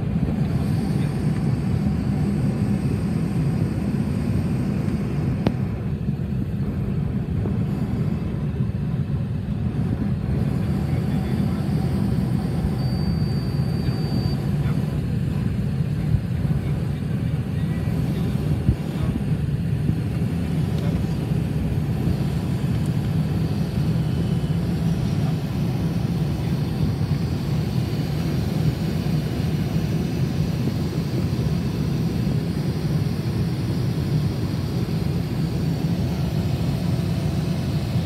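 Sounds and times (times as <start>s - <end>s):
jet cabin rumble: 0.0s - 38.0s.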